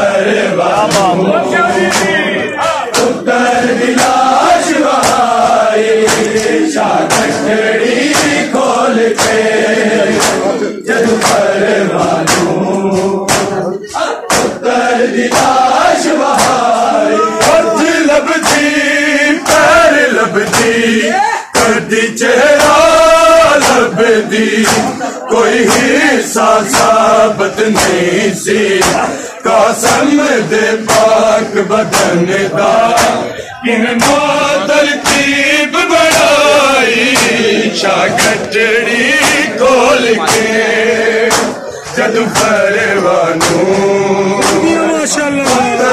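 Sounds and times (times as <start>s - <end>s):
men chanting in chorus: 0.0s - 45.9s
hands slapping bare chests: 0.8s - 1.2s, 1.8s - 2.2s, 2.9s - 20.8s, 21.5s - 33.3s, 33.9s - 35.4s, 36.0s - 44.8s, 45.4s - 45.8s.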